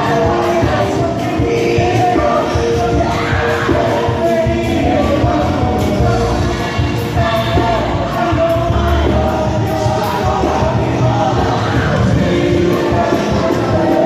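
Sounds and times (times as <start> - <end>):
gospel singers singing: 0.0 - 14.0.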